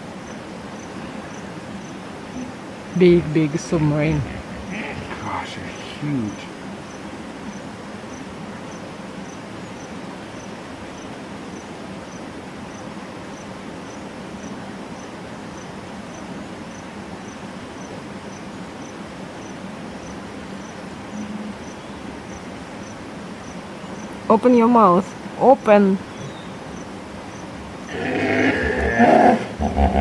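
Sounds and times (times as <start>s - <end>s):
insect chirping: 0.0s - 28.9s
steady hiss: 0.0s - 30.0s.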